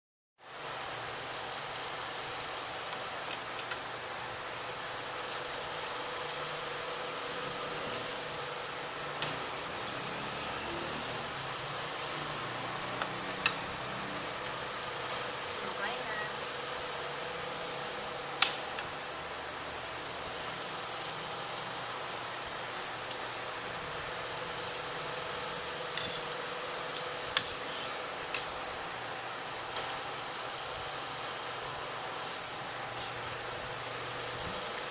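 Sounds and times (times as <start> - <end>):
mechanical hum with high whine: 0.4 - 34.9.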